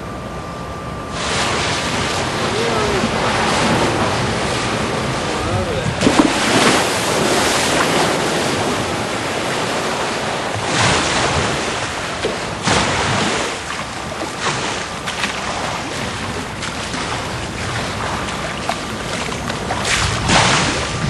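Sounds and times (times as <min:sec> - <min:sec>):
pool water splashing: 0:01.1 - 0:21.0.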